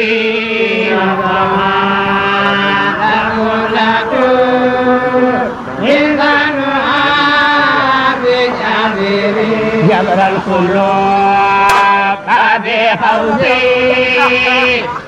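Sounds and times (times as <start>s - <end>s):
person chanting held notes: 0.0s - 15.0s.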